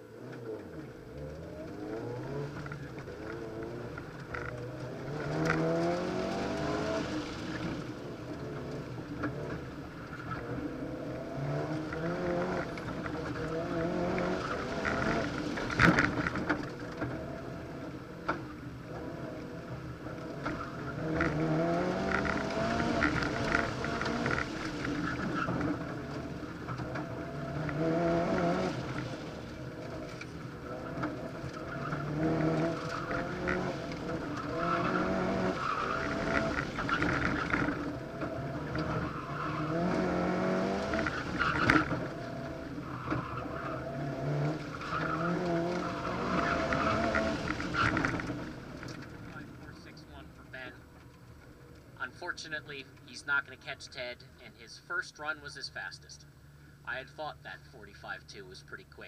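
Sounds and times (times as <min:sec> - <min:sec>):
car engine revving: 0:00.0 - 0:54.6.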